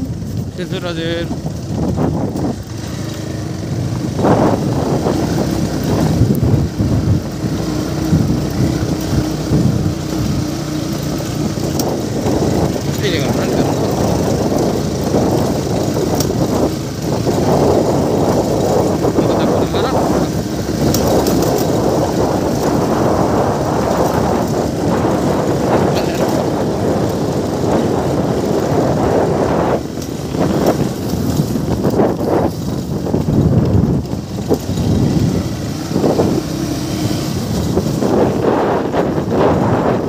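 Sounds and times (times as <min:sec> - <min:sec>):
vehicle rumble on dirt track: 0:00.0 - 0:40.0
wind buffeting microphone: 0:00.0 - 0:40.0.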